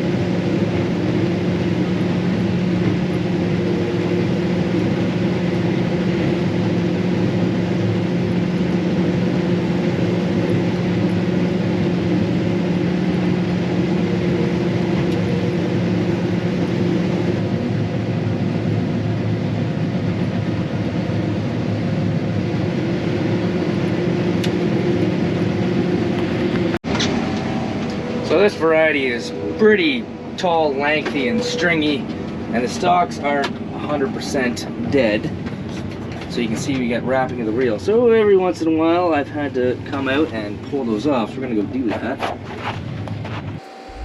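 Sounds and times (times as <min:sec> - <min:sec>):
combine harvester mechanical drone: 0:00.0 - 0:44.0.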